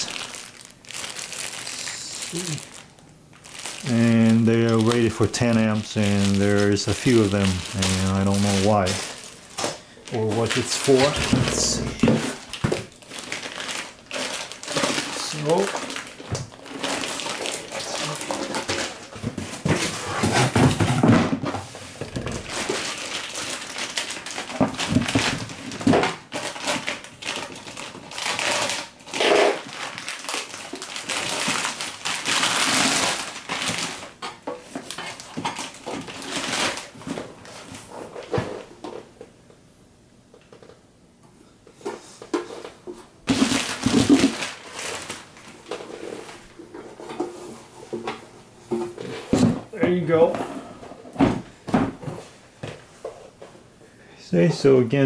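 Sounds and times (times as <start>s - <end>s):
plastic and cardboard packaging rustling: 0.0s - 39.1s, 41.7s - 50.3s.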